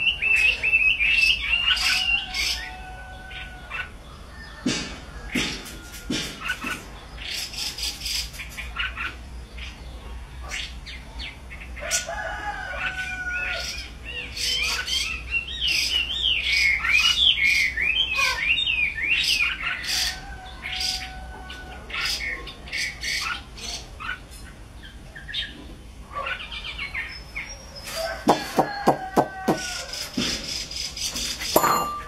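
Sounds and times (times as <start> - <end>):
songbird singing: 0.0 - 32.0.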